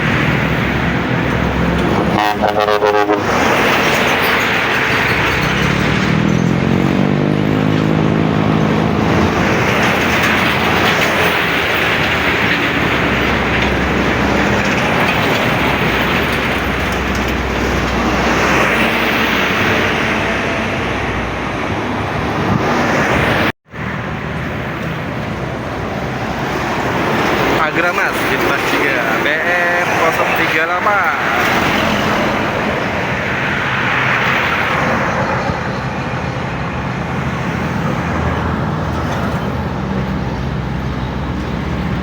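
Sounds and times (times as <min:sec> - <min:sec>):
heavy road traffic: 0:00.0 - 0:42.0.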